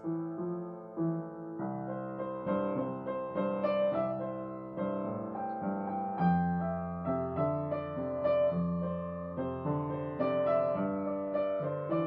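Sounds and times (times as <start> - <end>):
slow gentle piano: 0.0 - 12.0.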